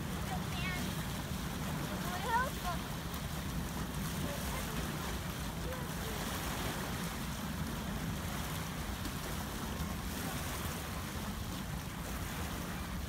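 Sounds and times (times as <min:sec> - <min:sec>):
waves washing against rocks: 0:00.0 - 0:13.0
wind rumbling on microphone: 0:00.0 - 0:13.0.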